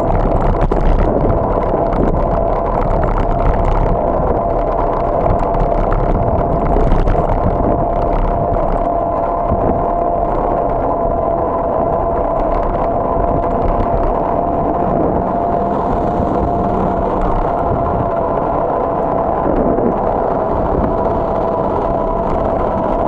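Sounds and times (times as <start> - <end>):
bike rolling on asphalt: 0.0 - 23.0
thin constant whine: 0.0 - 23.0.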